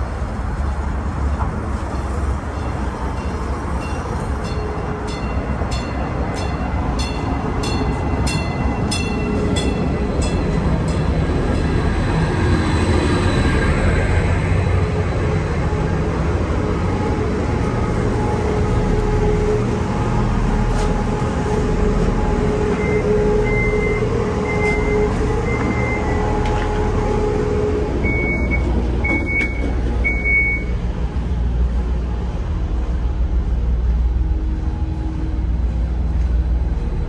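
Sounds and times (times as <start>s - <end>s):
diesel railcar idling: 0.0s - 37.0s.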